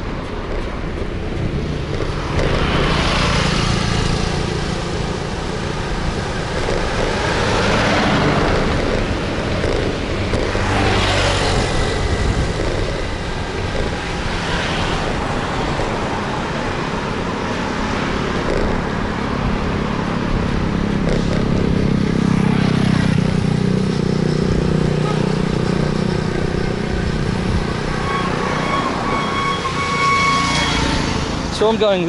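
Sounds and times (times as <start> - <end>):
wind rushing over microphone: 0.0 - 30.2
motor vehicle engines: 0.0 - 32.0.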